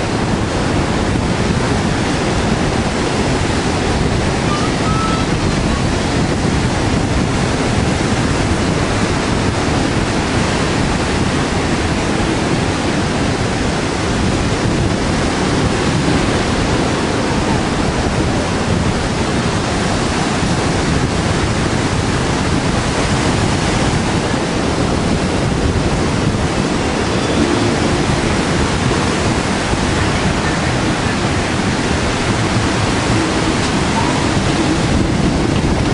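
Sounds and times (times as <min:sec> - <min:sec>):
ocean surf: 0:00.0 - 0:35.9
wind: 0:00.0 - 0:35.9.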